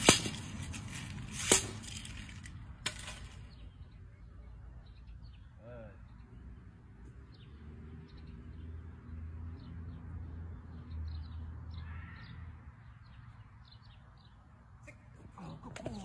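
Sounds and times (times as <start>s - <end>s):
small birds chirping: 1.7s - 16.0s.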